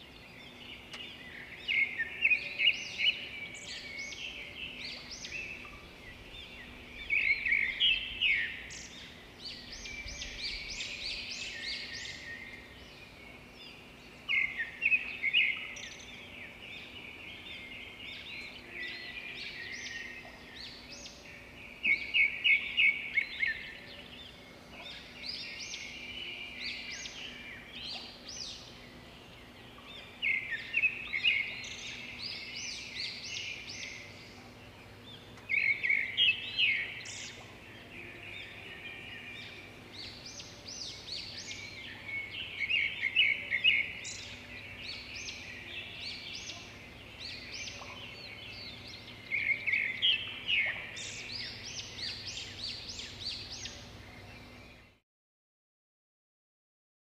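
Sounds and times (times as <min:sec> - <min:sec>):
birds chirping: 0:00.0 - 0:55.0
faint steady hum: 0:00.0 - 0:55.0.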